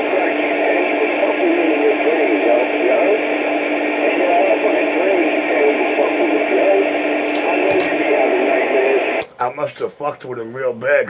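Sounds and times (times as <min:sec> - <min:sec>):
radio static hiss: 0:00.0 - 0:10.4.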